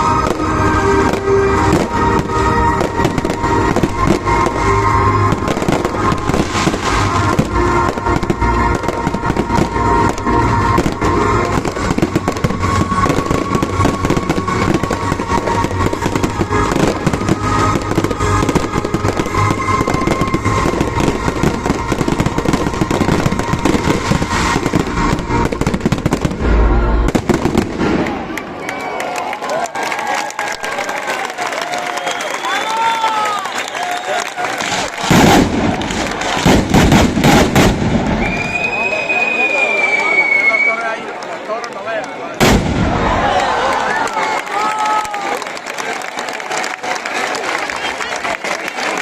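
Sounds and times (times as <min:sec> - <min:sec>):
fireworks banging and crackling: 0:00.0 - 0:29.0, 0:30.3 - 0:49.0.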